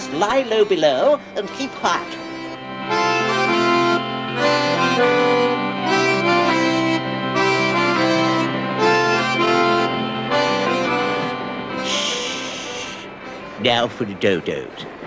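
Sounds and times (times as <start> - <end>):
accordion tune: 0.0 - 14.1.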